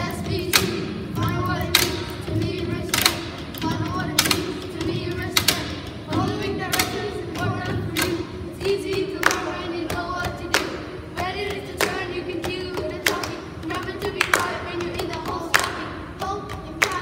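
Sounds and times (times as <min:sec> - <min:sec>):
children rapping in unison: 0:00.0 - 0:17.0
hand claps: 0:00.4 - 0:17.0.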